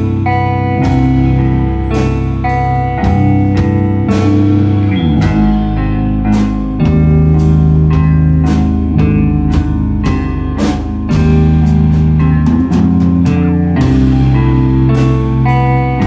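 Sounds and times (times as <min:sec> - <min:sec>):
bass guitar: 0:00.0 - 0:16.0
drum kit hitting: 0:00.0 - 0:16.0
electric guitar chords: 0:00.0 - 0:16.0.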